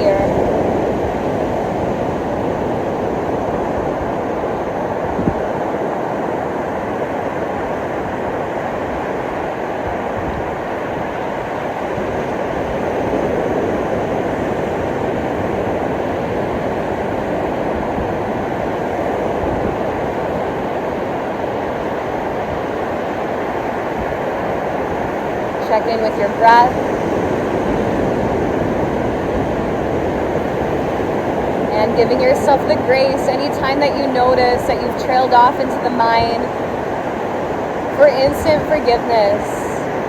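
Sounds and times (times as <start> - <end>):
ocean surf on the beach: 0.0 - 40.0.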